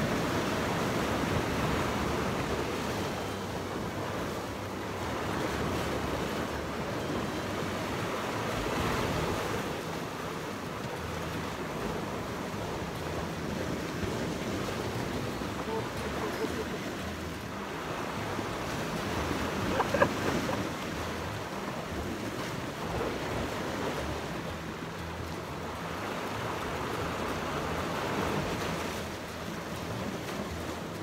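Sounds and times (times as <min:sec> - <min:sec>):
sea surf washing in: 0:00.0 - 0:31.0.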